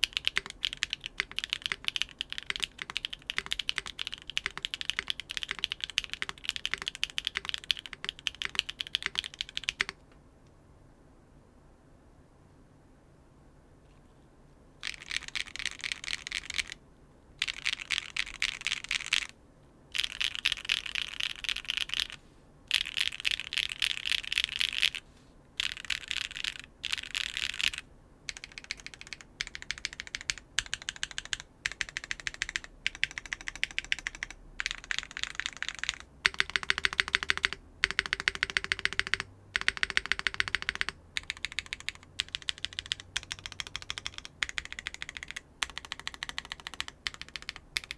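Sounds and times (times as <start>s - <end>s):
rapid mechanical keyboard typing: 0.0s - 10.0s, 14.8s - 16.8s, 17.4s - 19.3s, 20.0s - 25.0s, 25.6s - 47.9s.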